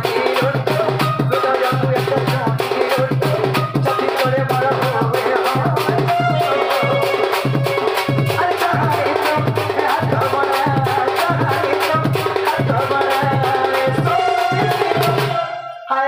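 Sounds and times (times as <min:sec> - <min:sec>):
hand drum beat: 0:00.0 - 0:15.5
man singing into microphone: 0:00.0 - 0:16.0.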